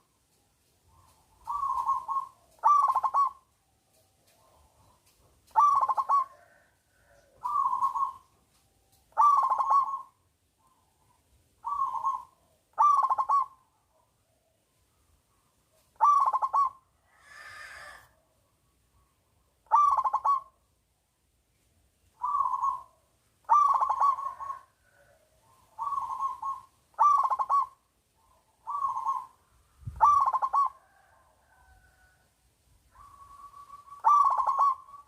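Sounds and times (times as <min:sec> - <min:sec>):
dove cooing: 0:00.8 - 0:03.5, 0:04.2 - 0:08.4, 0:09.0 - 0:14.6, 0:15.7 - 0:18.4, 0:19.6 - 0:20.7, 0:22.2 - 0:32.2, 0:32.9 - 0:35.0.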